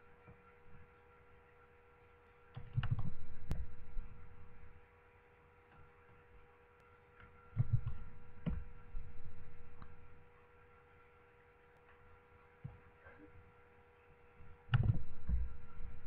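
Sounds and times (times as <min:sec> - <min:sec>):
electrical hum with hiss: 0:00.0 - 0:16.0.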